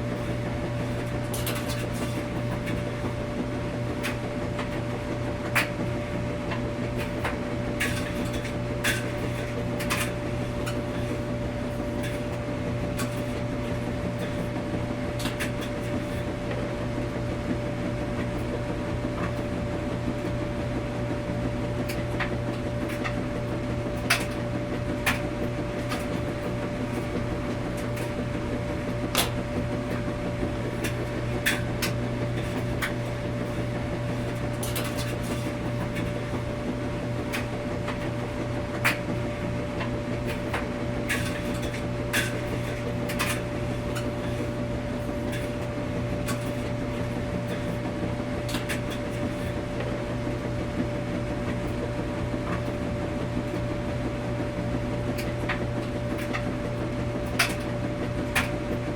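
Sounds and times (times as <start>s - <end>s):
washing machine hum: 0.0s - 58.9s.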